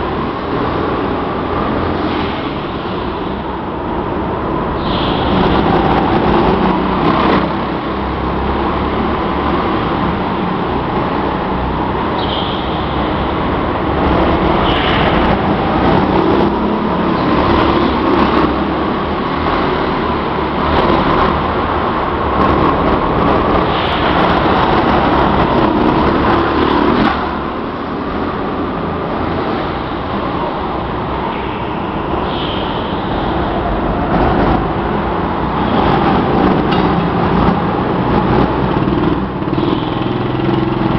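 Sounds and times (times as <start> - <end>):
go-kart engines running: 0.0 - 40.9.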